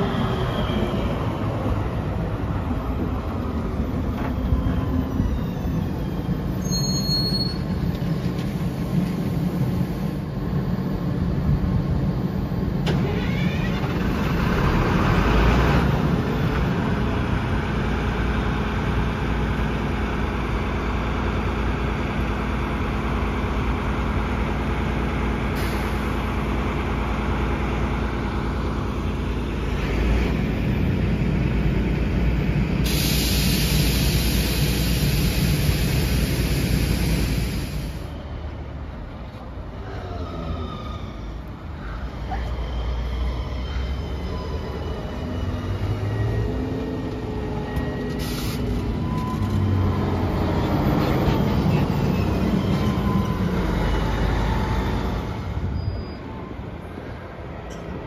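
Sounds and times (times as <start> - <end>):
tram equipment humming: 0.0 - 58.0.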